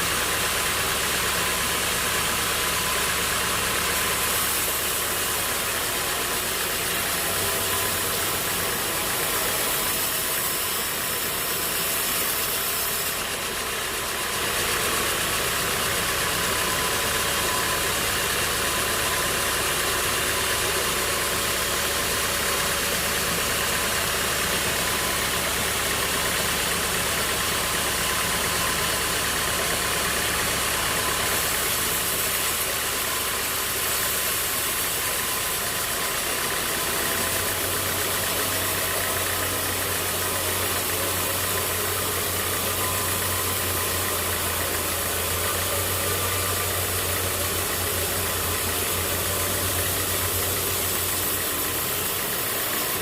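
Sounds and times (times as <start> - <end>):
sawmill machinery droning: 0.0 - 53.0.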